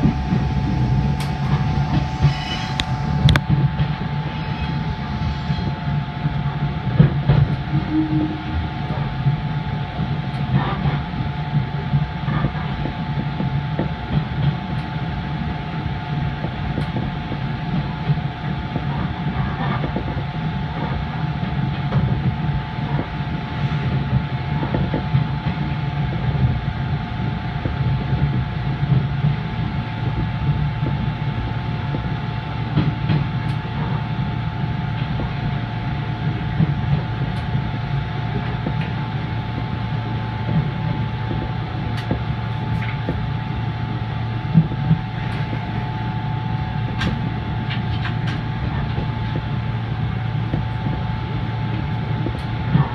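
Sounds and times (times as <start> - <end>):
rail joint clicks: 0.0 - 11.1, 12.2 - 52.9
constant hum: 0.0 - 52.9
train wheels rumbling on rail: 0.0 - 52.9.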